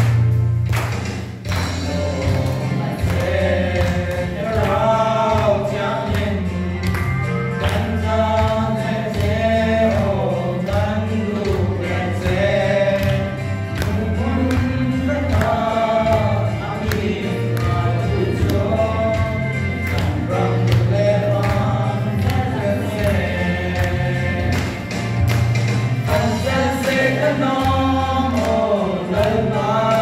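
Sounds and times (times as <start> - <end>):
backing music with bass and beat: 0.0 - 30.0
men singing gospel song: 1.4 - 30.0.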